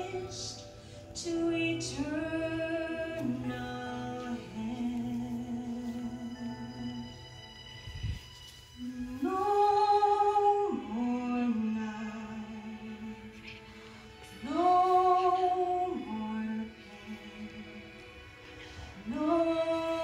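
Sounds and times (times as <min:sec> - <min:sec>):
woman singing slow song: 0:00.0 - 0:07.4, 0:08.8 - 0:20.0
soft sustained accompaniment: 0:00.0 - 0:20.0.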